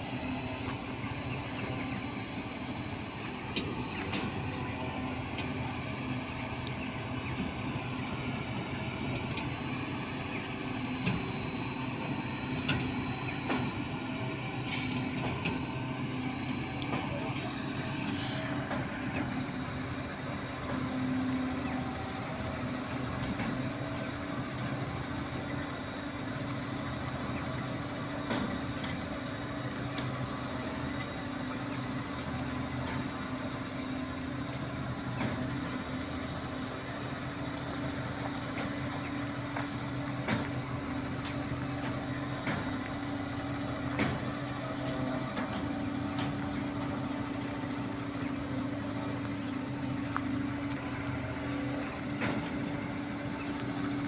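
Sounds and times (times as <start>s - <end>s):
diesel engines under load: 0.0s - 54.0s.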